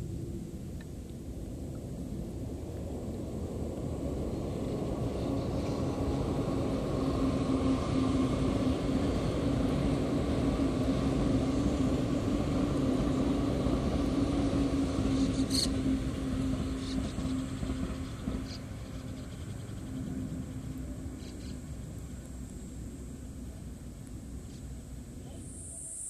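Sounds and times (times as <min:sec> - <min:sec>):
train hum: 0:00.0 - 0:26.0
train wheels rumbling on rails: 0:02.6 - 0:25.1.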